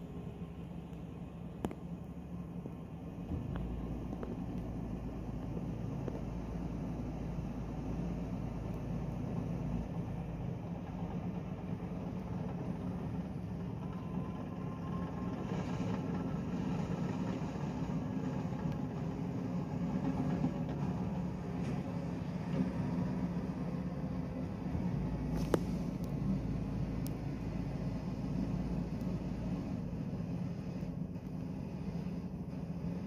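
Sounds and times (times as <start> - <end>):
bulldozer engine: 0.0 - 33.0
hydraulic excavator running: 0.0 - 33.0.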